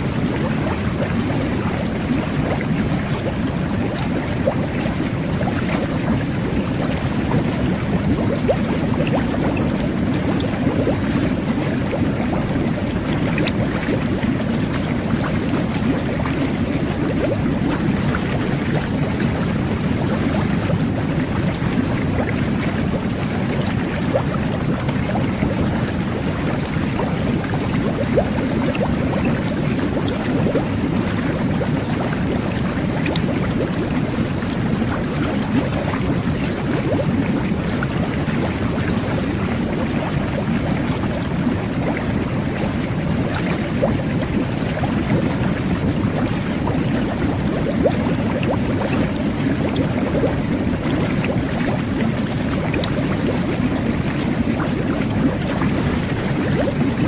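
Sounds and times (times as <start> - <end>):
whirlpool jets bubbling water: 0.0 - 57.0.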